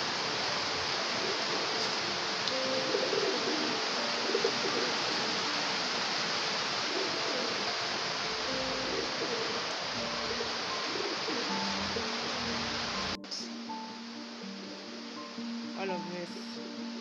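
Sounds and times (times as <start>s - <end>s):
runoff water flowing: 0.0s - 17.0s
steady rain: 0.0s - 17.0s.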